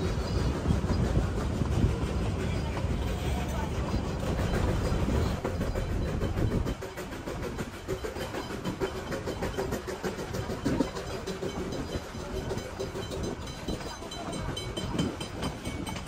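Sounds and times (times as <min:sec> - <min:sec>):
steam train rumbling and rattling: 0:00.0 - 0:16.0.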